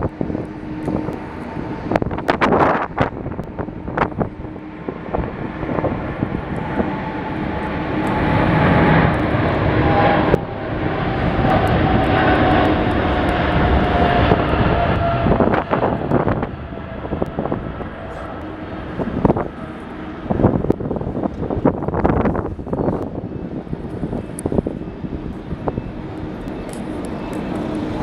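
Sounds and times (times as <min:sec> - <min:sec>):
jet engines roaring past: 0:00.0 - 0:28.0
wind buffeting microphone: 0:00.0 - 0:28.0.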